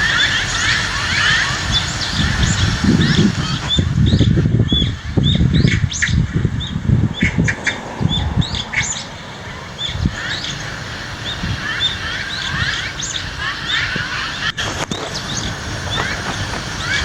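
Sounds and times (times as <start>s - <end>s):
low irregular rumble: 0.0s - 17.0s
small birds chirping: 0.0s - 17.0s.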